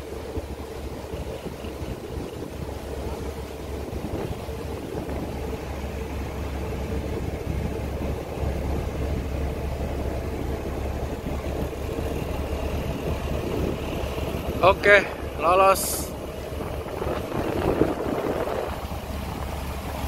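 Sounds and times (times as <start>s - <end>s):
ship engine droning: 0.0s - 20.0s.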